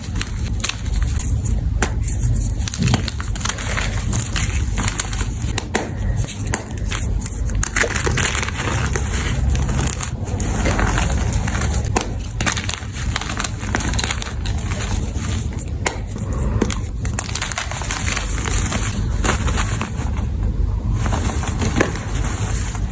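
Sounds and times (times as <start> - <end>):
chalk crunching and crackling: 0.0 - 22.9.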